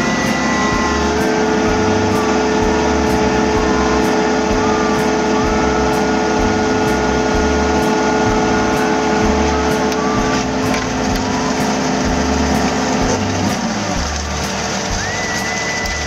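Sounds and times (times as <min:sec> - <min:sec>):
excavator diesel engine running: 0:00.0 - 0:16.0
steady whine: 0:00.0 - 0:16.0.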